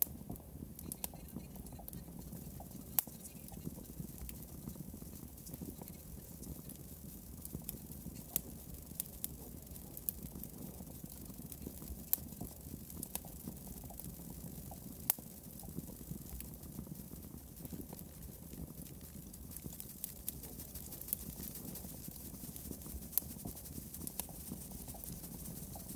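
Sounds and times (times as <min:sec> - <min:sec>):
sharp clicks and crackles: 0:00.0 - 0:25.9.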